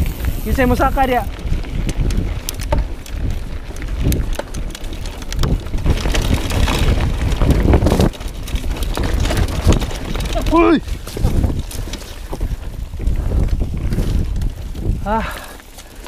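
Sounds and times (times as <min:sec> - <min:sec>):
bike knocks and rattles: 0:00.0 - 0:15.9
bike rolling on gravel: 0:00.0 - 0:16.0
wind buffeting microphone: 0:00.0 - 0:16.0.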